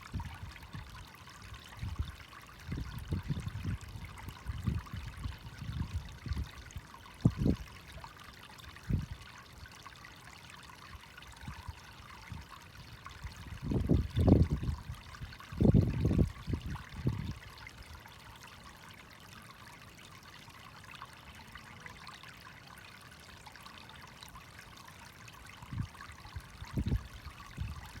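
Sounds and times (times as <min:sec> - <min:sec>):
water trickling: 0:00.0 - 0:28.0.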